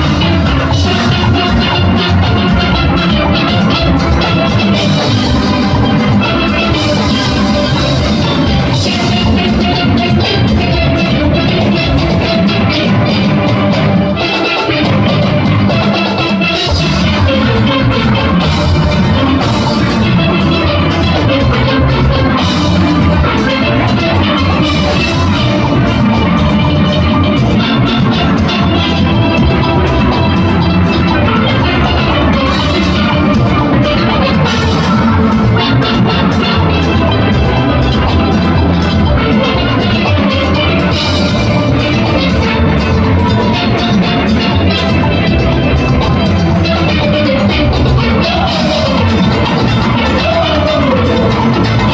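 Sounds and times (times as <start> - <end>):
drum kit and percussion beat: 0.0 - 51.9
steel band playing: 0.0 - 51.9.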